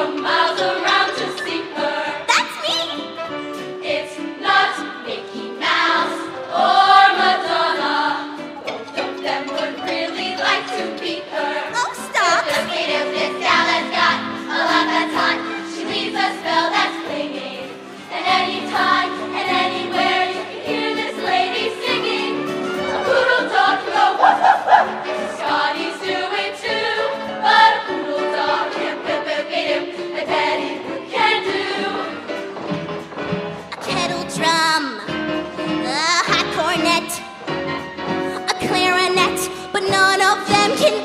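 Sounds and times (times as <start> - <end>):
choir singing in harmony: 0.0 - 2.4, 3.0 - 33.7.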